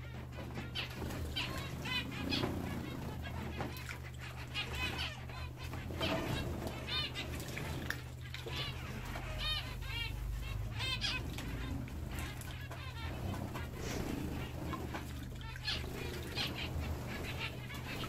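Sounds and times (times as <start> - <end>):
finches beeping calls: 0.0 - 18.0
wings flapping in water: 0.0 - 18.0.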